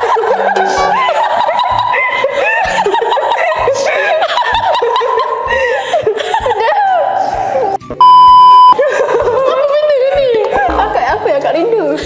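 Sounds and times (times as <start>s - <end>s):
women laughing: 0.0s - 7.7s, 8.7s - 10.8s.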